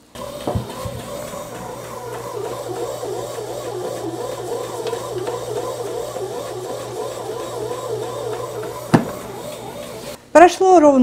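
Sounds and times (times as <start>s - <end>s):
bread machine motor humming: 0.0s - 10.2s.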